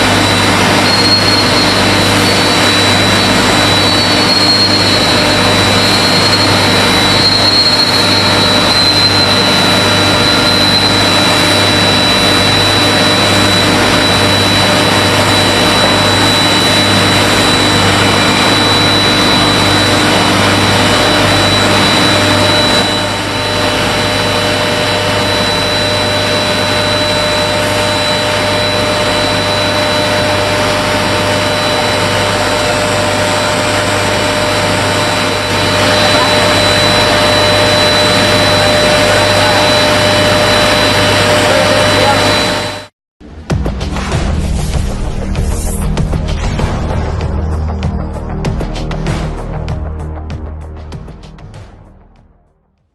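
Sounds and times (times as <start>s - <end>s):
thin high whine: 0.0s - 42.9s, 43.9s - 50.2s
industrial machinery roaring: 0.0s - 52.4s.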